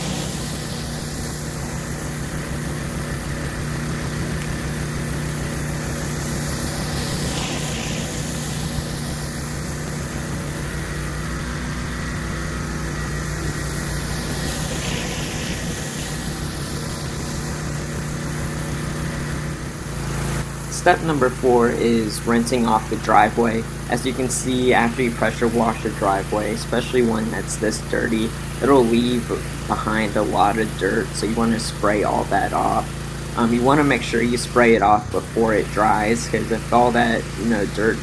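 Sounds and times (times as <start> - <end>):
high-pressure water spraying hiss: 0.0 - 38.0
pressure washer engine running: 0.0 - 38.0.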